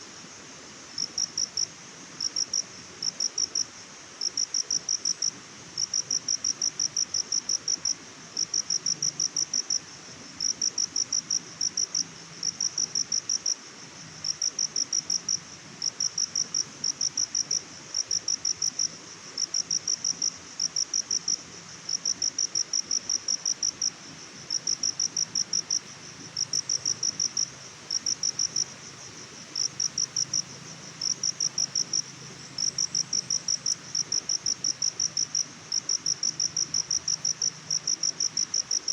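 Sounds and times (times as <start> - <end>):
cricket chirping: 0.0 - 38.9
faint steady hiss: 0.0 - 38.9.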